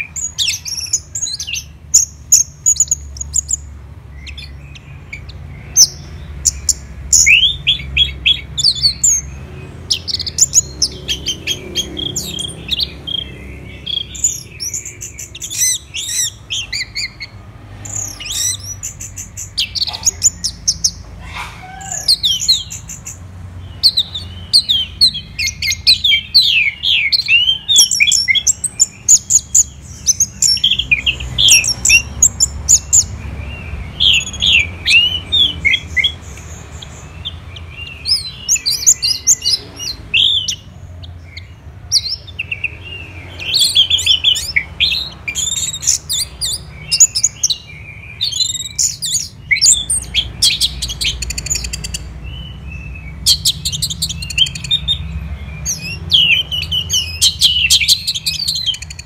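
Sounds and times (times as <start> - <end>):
thrush singing: 0.0 - 59.0.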